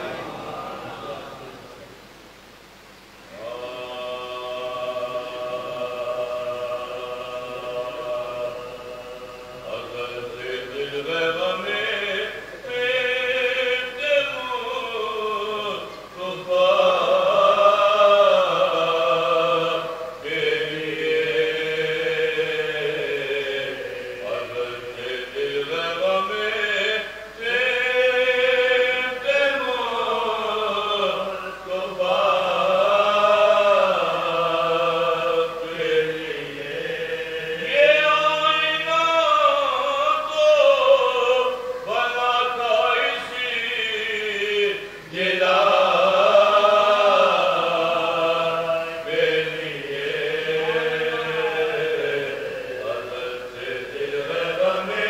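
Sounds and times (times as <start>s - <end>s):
men chanting unaccompanied: 3.3s - 55.0s.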